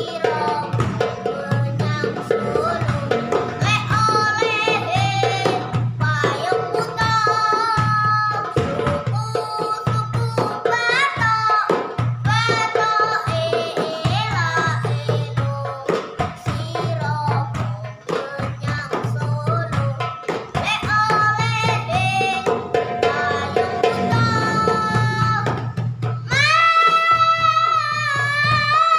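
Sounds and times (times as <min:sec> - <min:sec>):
boy singing: 0:00.0 - 0:28.9
frame drums: 0:00.0 - 0:28.9.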